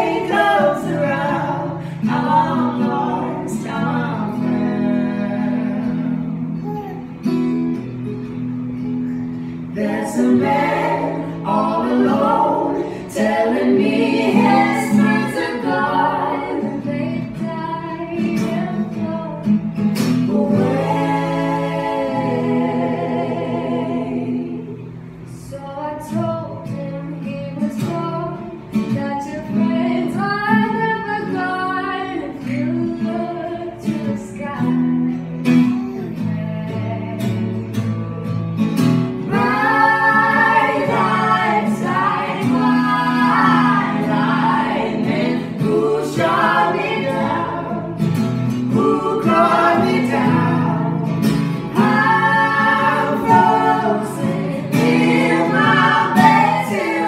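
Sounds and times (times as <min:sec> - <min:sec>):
woman singing: 0:00.0 - 0:06.6, 0:09.7 - 0:22.8, 0:25.4 - 0:37.7, 0:39.2 - 0:48.0, 0:48.6 - 0:57.0
harmony singing: 0:00.0 - 0:06.8, 0:09.5 - 0:37.8, 0:38.9 - 0:57.0
acoustic guitar: 0:00.0 - 0:57.0.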